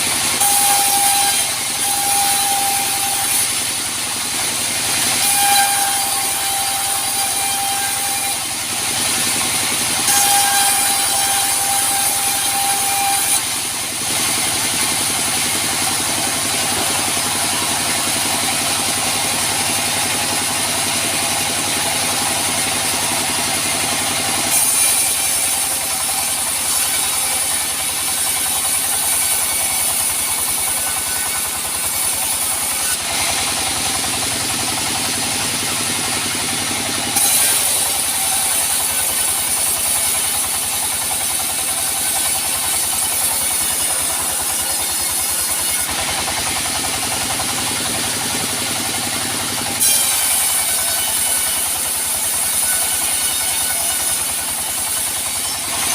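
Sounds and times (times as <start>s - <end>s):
band saw cutting a log: 0.0s - 55.9s.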